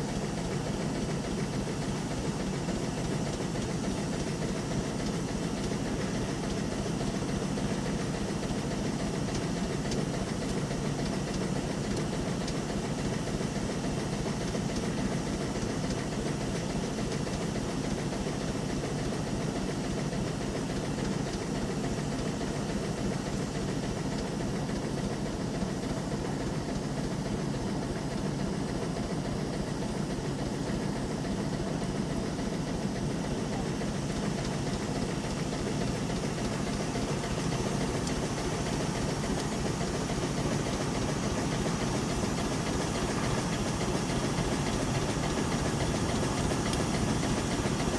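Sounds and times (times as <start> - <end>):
boat steam engine running: 0.0 - 47.9.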